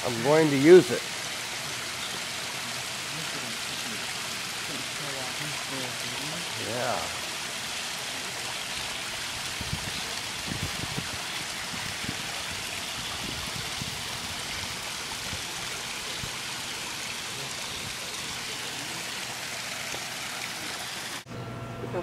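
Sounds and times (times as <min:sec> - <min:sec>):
running water splashing: 0:00.0 - 0:21.3.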